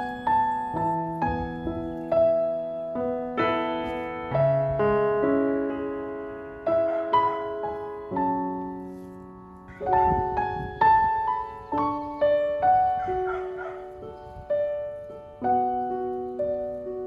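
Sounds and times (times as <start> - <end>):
slow gentle solo piano: 0.0 - 17.0.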